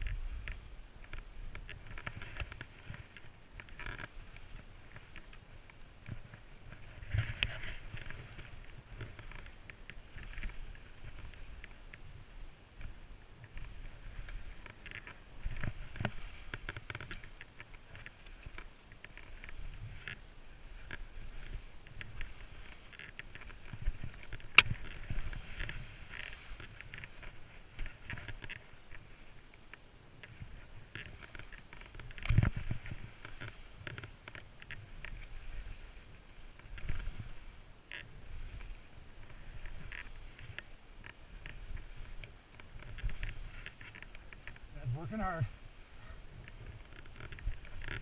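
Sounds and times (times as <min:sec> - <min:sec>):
skis swishing through snow: 0:00.0 - 0:48.0
wind rumble on microphone: 0:00.0 - 0:48.0.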